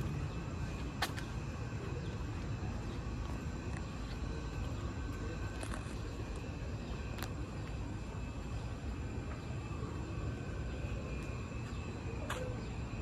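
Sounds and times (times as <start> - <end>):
faint high steady tones: 0.0 - 13.0
low outdoor rumble: 0.0 - 13.0.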